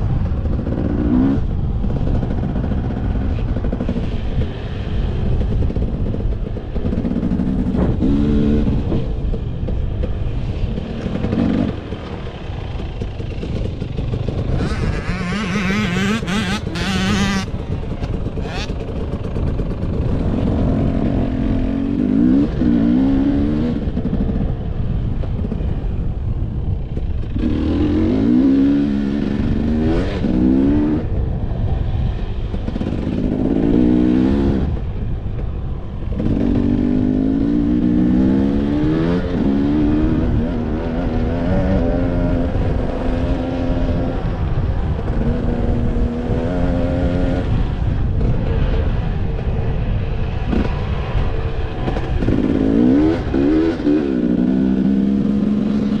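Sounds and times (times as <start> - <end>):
motorbike engine revving: 0.0 - 26.1, 35.9 - 56.0
wind noise: 0.0 - 56.0.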